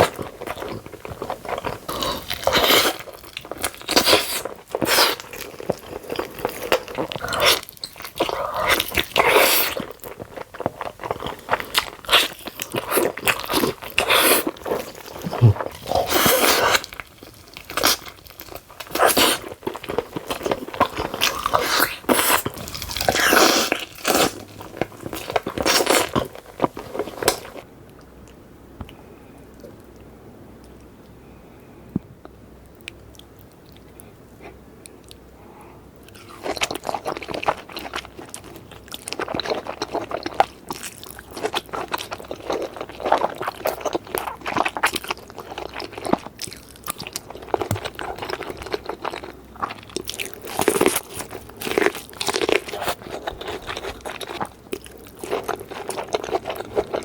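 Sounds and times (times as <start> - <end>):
wet chewing: 0.0 - 27.6, 36.0 - 57.0.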